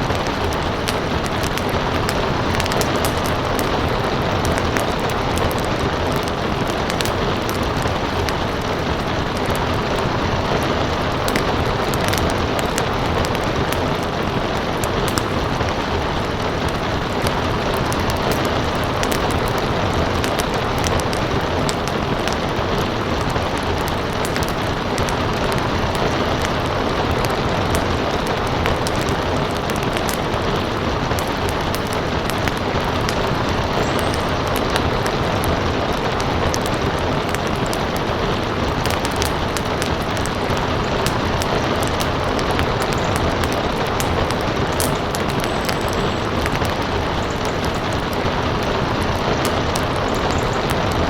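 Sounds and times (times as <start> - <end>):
rain hiss: 0.0 - 51.0
wood fire crackling: 0.0 - 51.0.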